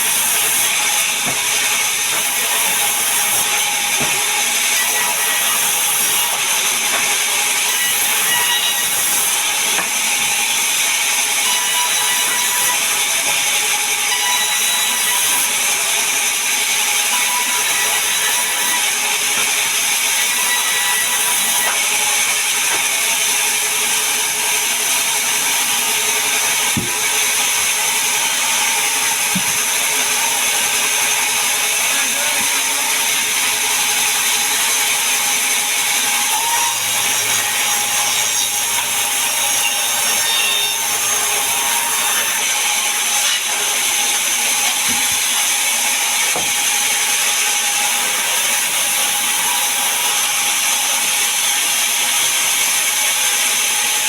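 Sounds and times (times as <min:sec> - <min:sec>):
saw cutting through log: 0:00.0 - 0:54.0.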